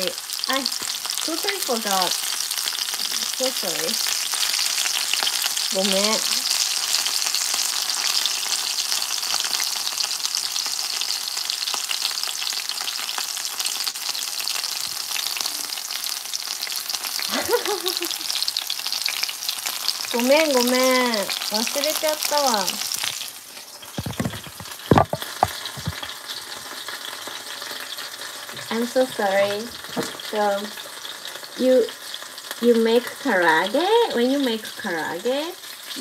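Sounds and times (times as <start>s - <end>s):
chicken frying in oil: 0.0s - 36.0s.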